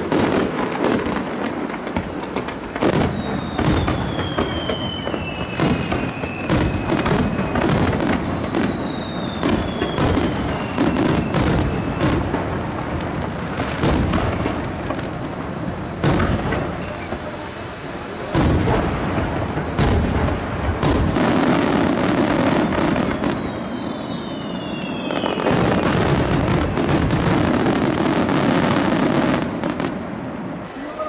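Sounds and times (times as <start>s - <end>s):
firework whistles falling in pitch: 0.0s - 29.9s
fireworks bangs and crackles: 0.0s - 31.0s.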